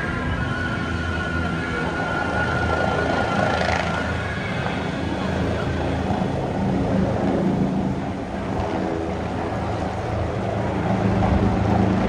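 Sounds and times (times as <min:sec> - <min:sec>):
outdoor noise: 0:00.0 - 0:12.0
steady engine drone: 0:00.0 - 0:12.0.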